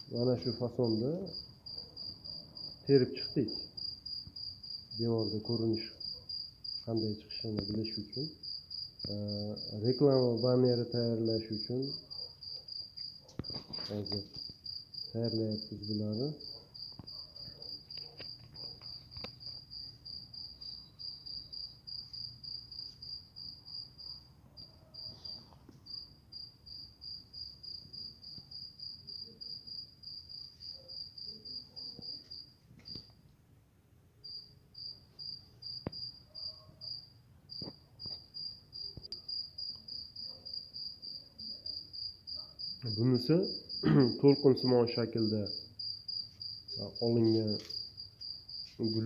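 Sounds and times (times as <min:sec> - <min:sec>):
cricket chirping: 0:00.0 - 0:33.3, 0:34.2 - 0:49.0.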